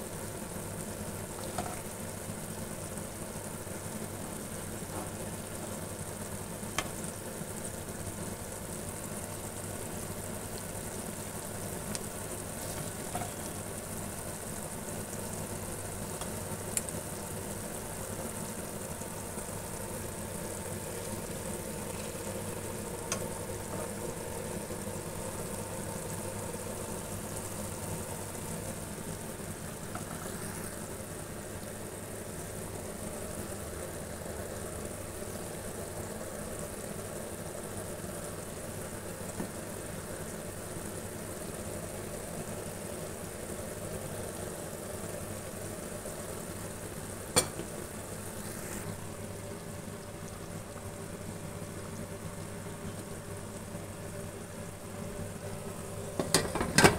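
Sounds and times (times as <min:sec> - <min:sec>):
food sizzling in oil: 0:00.0 - 0:56.9.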